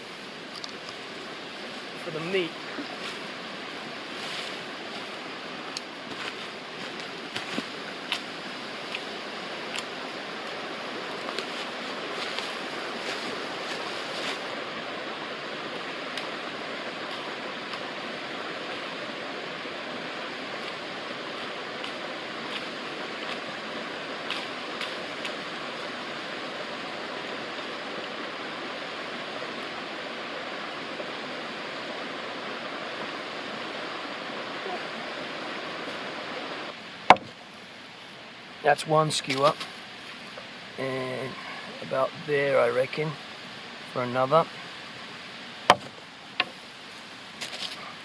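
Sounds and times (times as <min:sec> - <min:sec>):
mountain creek rushing: 0:00.0 - 0:48.0.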